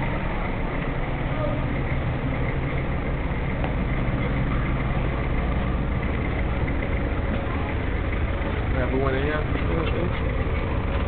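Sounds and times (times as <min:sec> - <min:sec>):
street traffic rumble: 0:00.0 - 0:11.0
vehicle engines idling: 0:00.0 - 0:11.0.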